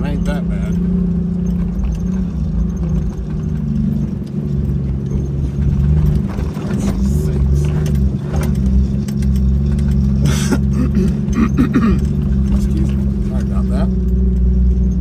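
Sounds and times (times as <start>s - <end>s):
car engine revving: 0.0s - 15.0s
knocks and rattles: 1.4s - 15.0s.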